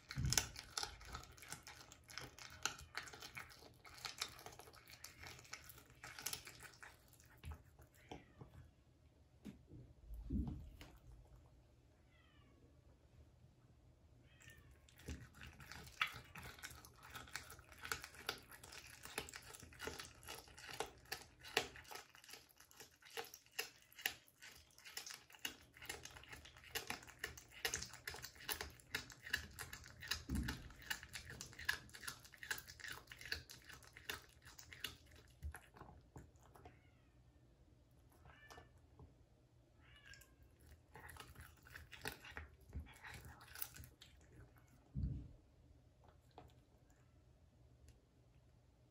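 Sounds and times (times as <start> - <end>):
cat chewing and crunching: 0.0 - 8.4, 14.5 - 36.8, 40.1 - 48.9.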